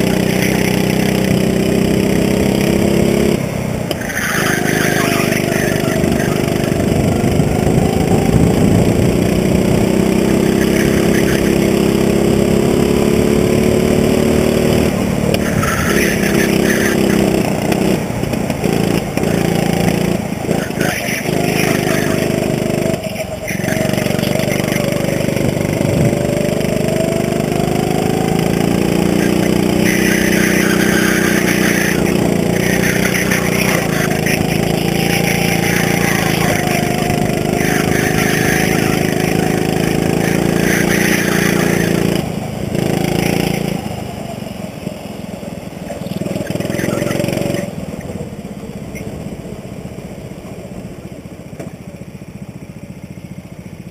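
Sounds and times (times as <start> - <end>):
go-kart engine at high revs: 0.0 - 53.9.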